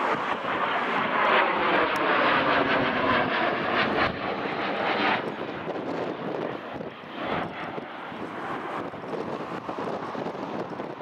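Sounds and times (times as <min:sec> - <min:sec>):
fighter jets taking off: 0:00.0 - 0:11.0.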